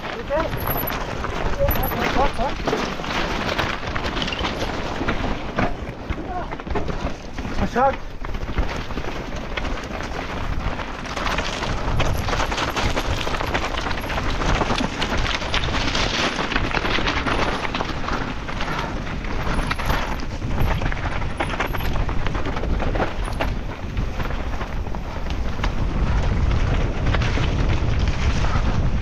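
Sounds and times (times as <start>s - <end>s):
tyres and stones clattering: 0.0s - 29.0s
wind buffeting microphone: 0.0s - 29.0s.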